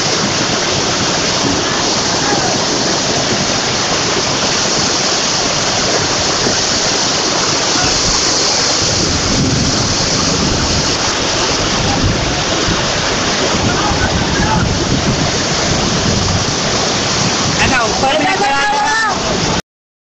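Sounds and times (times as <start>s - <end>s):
floodwater rushing: 0.0s - 19.6s.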